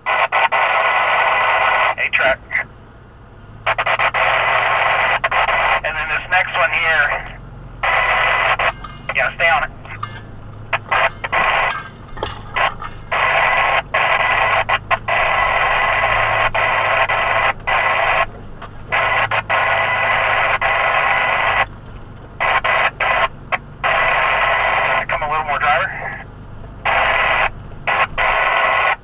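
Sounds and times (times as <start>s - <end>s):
two-way radio static hiss: 0.0s - 2.7s, 3.6s - 29.0s
low steady hum: 0.0s - 28.9s.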